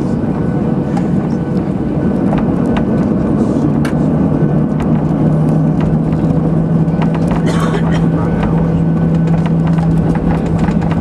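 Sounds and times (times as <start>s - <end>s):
airplane cabin engine rumble: 0.0s - 11.0s
low hum: 0.0s - 11.0s.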